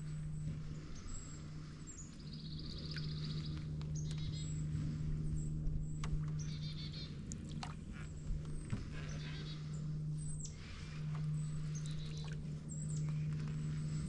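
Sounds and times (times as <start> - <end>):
songbirds trilling: 0.0 - 14.0
steady low hum: 0.0 - 14.0.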